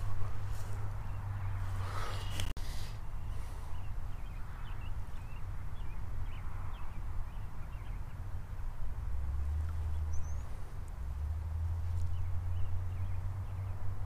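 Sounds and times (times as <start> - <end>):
small birds chirping: 0.0 - 8.7, 9.5 - 14.0
wind rumbling on microphone: 0.0 - 14.0.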